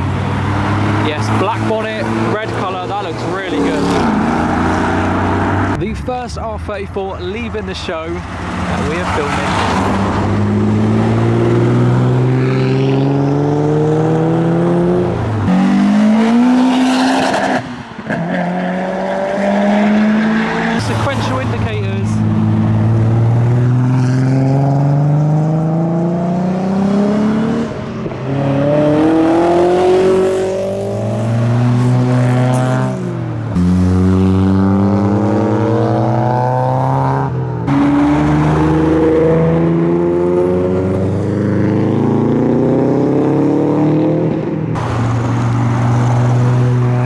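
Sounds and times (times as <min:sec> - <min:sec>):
car engines accelerating: 0:00.0 - 0:47.0.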